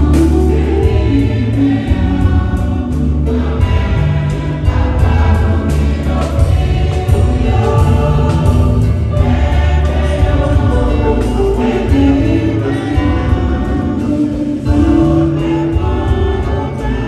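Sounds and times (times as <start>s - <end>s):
church choir singing a hymn: 0.0s - 17.0s
instrumental accompaniment with bass: 0.0s - 17.0s.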